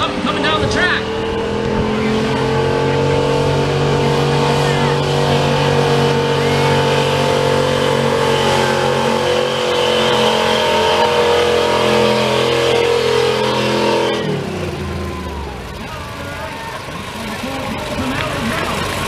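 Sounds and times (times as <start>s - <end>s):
truck engine revving under load: 0.0s - 19.0s.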